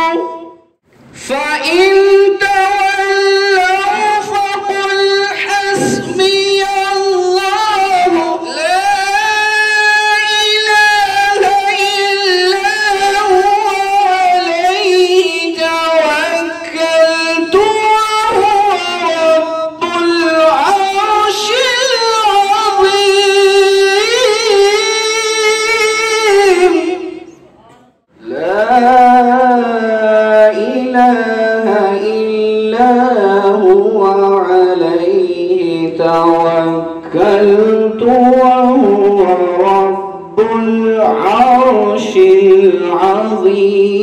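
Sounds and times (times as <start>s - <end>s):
man chanting through microphone: 0.0s - 44.0s.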